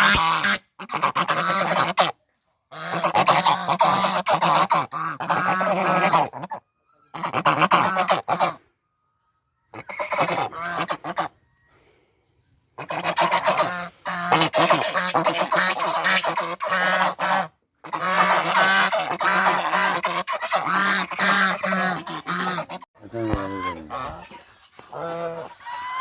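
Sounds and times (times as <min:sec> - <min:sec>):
geese honking: 0:00.0 - 0:08.7, 0:09.6 - 0:11.4, 0:12.8 - 0:26.0.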